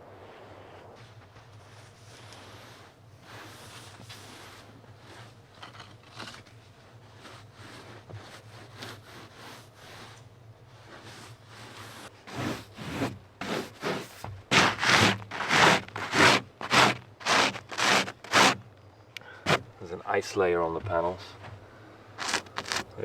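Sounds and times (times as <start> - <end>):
snow scraping off solar panels: 0.0 - 18.7, 19.3 - 23.0.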